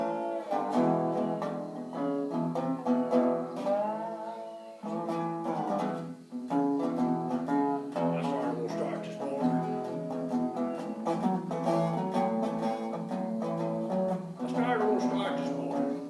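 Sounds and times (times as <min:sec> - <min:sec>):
resonator guitar plucked notes: 0:00.0 - 0:16.0.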